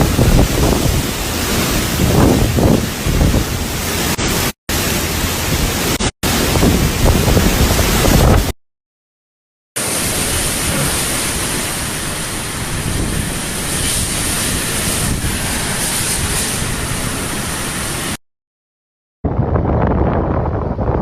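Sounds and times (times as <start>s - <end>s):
wind and rain rushing: 0.0s - 8.6s, 9.8s - 18.2s, 19.3s - 21.0s.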